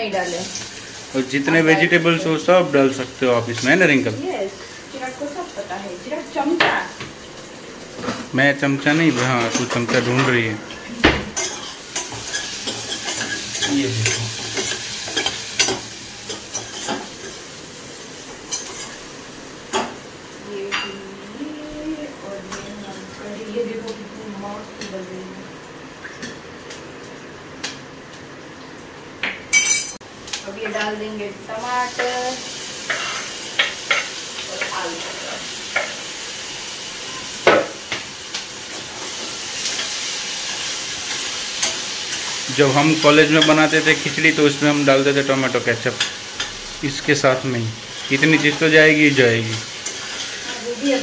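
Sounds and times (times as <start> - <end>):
onion frying sizzle: 0.0 - 51.0.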